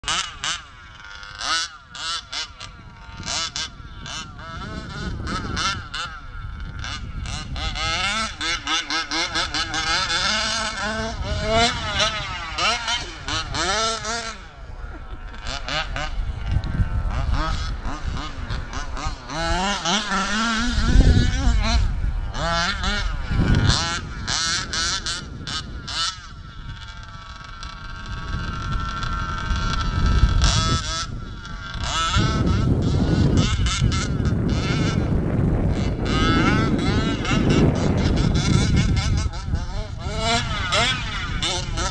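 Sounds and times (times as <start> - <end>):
rc car engine revving: 0.0 - 41.9.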